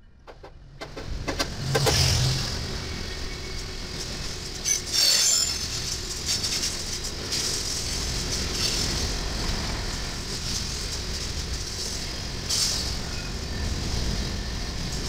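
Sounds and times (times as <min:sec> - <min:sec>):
train wheels clattering on rails: 0:00.2 - 0:15.0.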